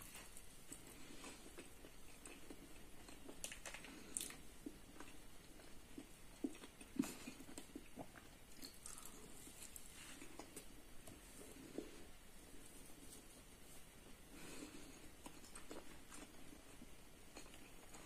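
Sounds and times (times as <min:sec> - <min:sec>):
person chewing soft food: 0:00.0 - 0:18.0.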